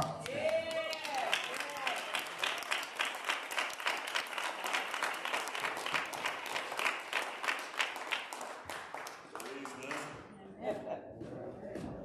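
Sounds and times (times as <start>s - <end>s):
congregation clapping in rhythm: 0.0s - 10.3s.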